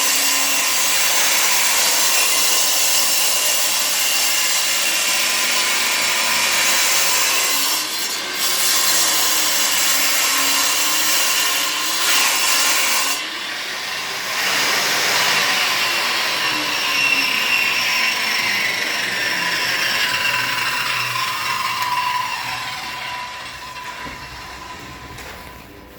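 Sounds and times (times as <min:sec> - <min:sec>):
power tool cutting: 0:00.0 - 0:25.4.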